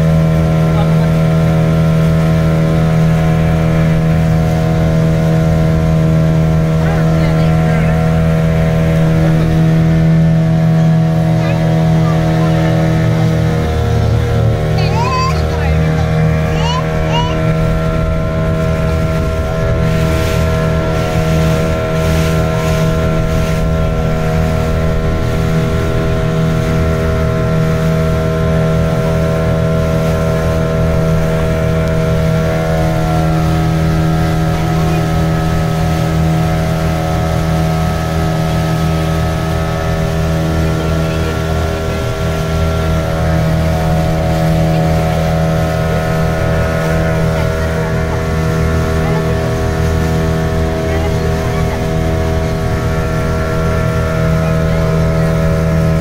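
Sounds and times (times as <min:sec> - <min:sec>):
motorboat engine droning: 0:00.0 - 0:56.0
water rushing: 0:00.0 - 0:56.0.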